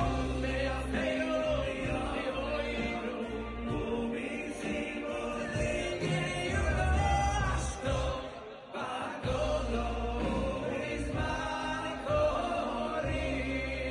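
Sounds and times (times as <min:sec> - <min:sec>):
band with strong bass line: 0:00.0 - 0:13.9
men singing together: 0:00.0 - 0:13.9.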